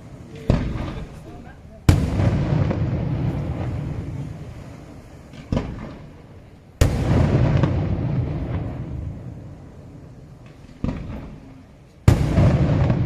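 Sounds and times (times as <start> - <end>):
fireworks bang with rolling echo: 0.0 - 13.0
sharp firework report: 0.0 - 13.0.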